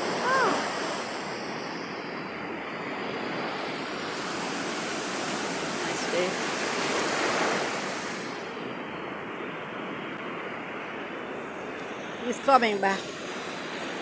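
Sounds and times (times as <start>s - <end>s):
waves breaking on shore: 0.0s - 14.0s.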